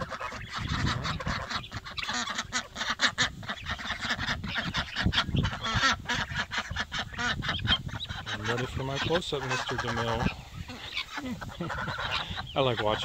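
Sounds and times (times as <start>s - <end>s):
birds making rapid calls: 0.0s - 13.0s
goose honks: 0.0s - 13.0s.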